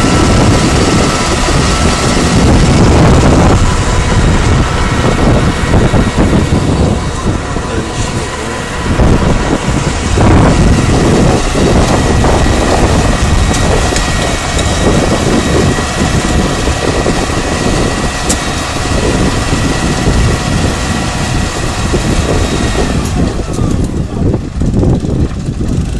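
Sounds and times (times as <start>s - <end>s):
tractor engine running: 0.0s - 25.9s
wind on microphone: 0.0s - 25.9s.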